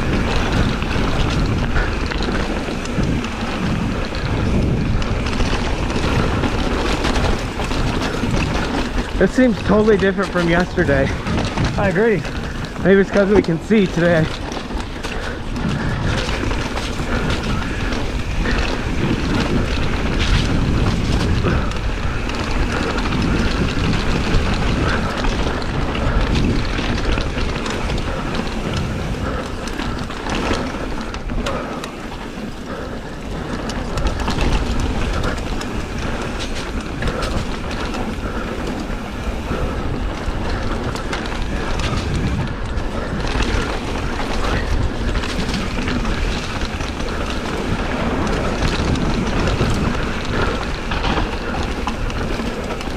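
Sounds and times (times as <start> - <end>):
bike chain and frame clattering: 0.0 - 52.9
bike tyre rumble: 0.0 - 52.9
wind buffeting microphone: 0.0 - 52.9.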